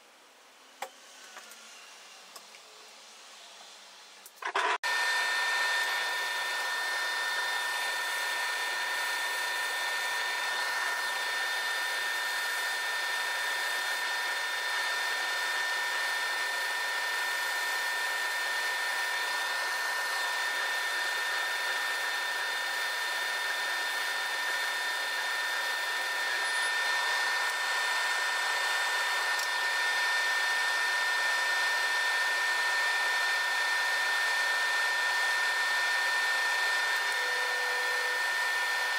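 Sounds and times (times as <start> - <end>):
laser engraver fan whir: 0.3 - 38.9.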